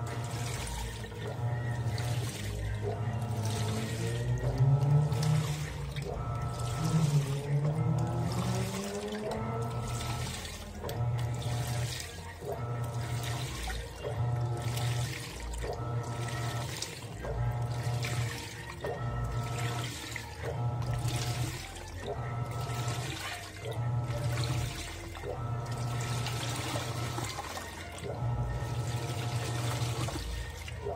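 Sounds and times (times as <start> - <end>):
washing machine motor hum and whine: 0.0 - 30.9
water sloshing and swishing: 0.0 - 30.9.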